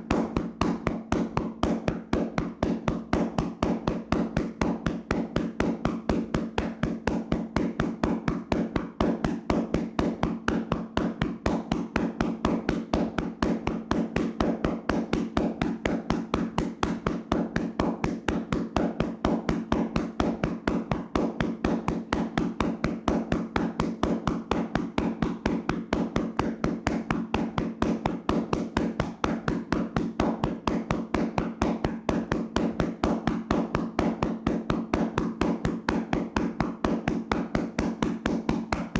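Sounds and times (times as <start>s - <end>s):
hands slapping a body: 0.1s - 38.9s.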